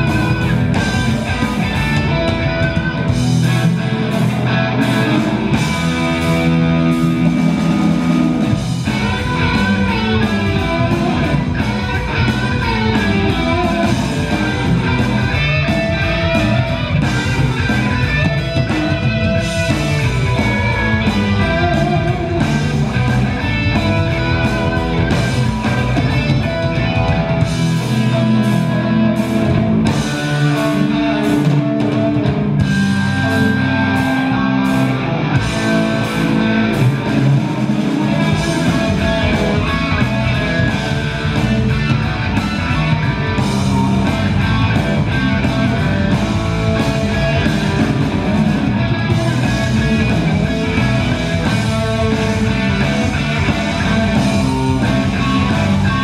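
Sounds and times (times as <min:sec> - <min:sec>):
blues-rock band playing: 0:00.0 - 0:56.0
overdriven electric guitars: 0:00.0 - 0:56.0.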